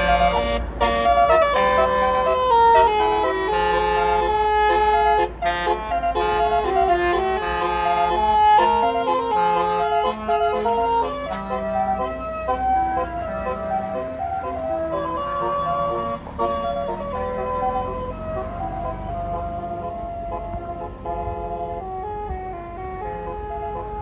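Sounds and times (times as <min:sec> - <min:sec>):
bus engine rumble: 0:00.0 - 0:24.0
multi-trumpet bus horn melody: 0:00.0 - 0:24.0.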